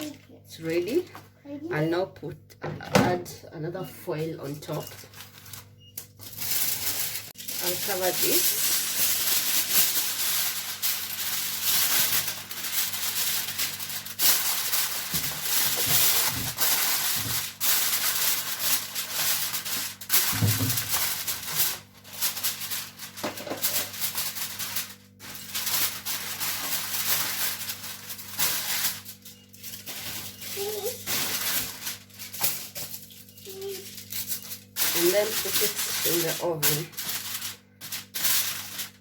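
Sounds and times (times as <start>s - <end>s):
aluminium foil crinkling: 0.0s - 1.1s, 4.2s - 39.0s.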